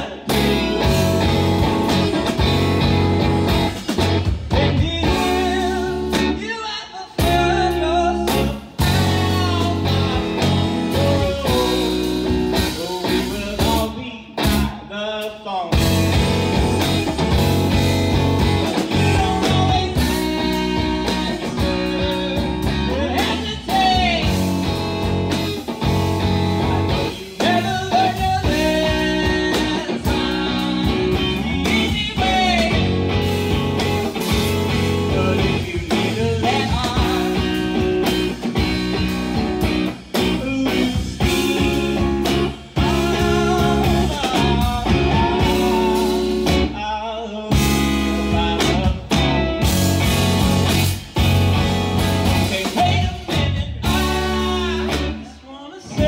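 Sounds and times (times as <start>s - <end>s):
man singing: 0.0s - 2.0s, 4.3s - 17.4s, 18.6s - 25.4s, 26.9s - 50.0s, 52.2s - 56.0s
drums: 0.0s - 56.0s
electric bass: 0.0s - 56.0s
electric guitar: 0.0s - 56.0s.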